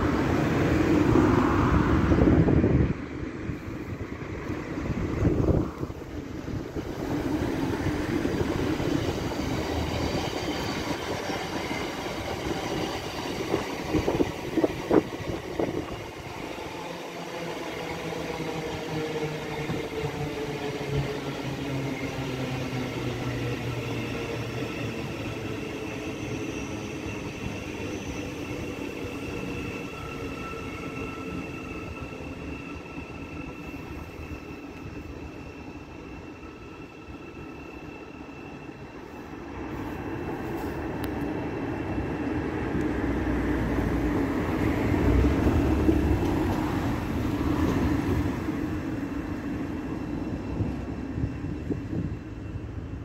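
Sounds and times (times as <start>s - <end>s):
train running past: 0.0s - 53.0s.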